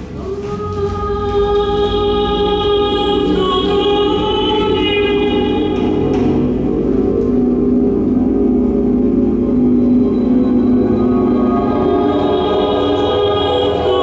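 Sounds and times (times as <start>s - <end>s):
held choir-like chords: 0.0s - 14.0s.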